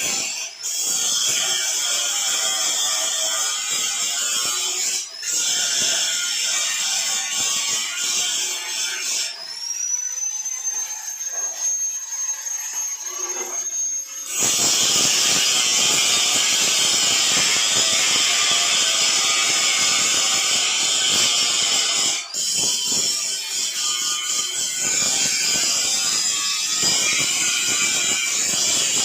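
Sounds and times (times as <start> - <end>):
angle grinder whining: 0.0 - 29.0
grinder grinding steel: 0.0 - 29.0.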